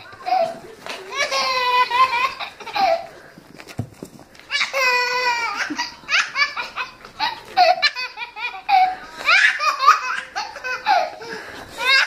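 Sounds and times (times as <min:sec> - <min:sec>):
baby laughing: 0:00.0 - 0:03.1, 0:04.5 - 0:12.0.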